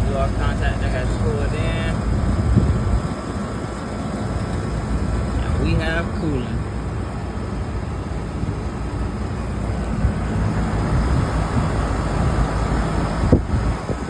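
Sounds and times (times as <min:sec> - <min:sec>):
air conditioning unit rushing: 0:00.0 - 0:14.0.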